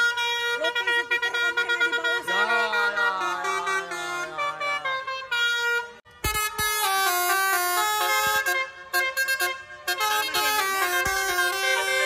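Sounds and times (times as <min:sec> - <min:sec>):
musical air horns playing a tune: 0:00.0 - 0:12.0.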